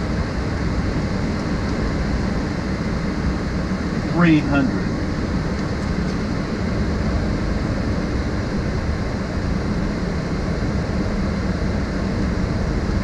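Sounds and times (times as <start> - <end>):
low cockpit hum: 0.0 - 13.0.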